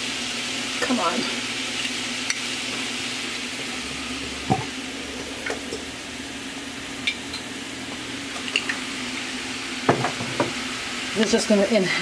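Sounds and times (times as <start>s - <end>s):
vegetables sizzling: 0.0s - 12.0s.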